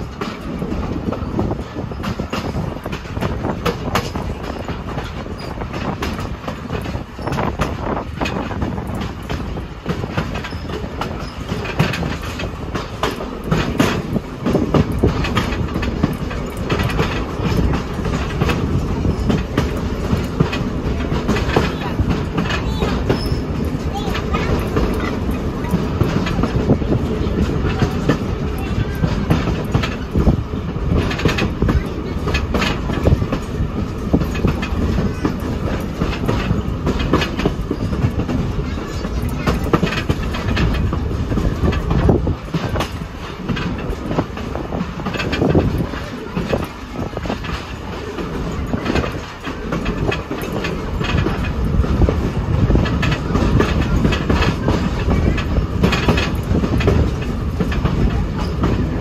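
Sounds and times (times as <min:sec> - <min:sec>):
train cars rumbling: 0:00.0 - 0:59.0
wheels clicking over rails: 0:00.0 - 0:59.0.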